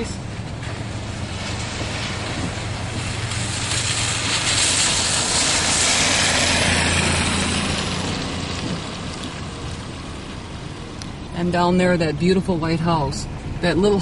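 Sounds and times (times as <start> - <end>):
car engine hum: 0.0 - 14.0
road and wind noise: 0.0 - 14.0.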